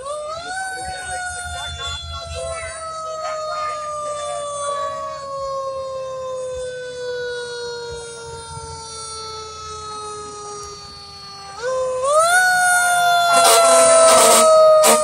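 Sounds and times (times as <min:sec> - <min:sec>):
fire engine siren winding down: 0:00.0 - 0:15.0.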